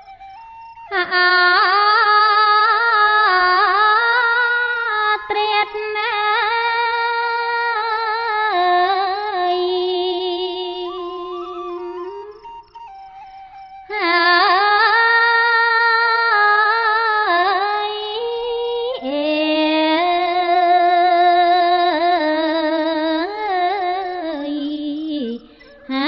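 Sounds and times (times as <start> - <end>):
woman chanting: 0.9 - 12.6, 13.9 - 26.0.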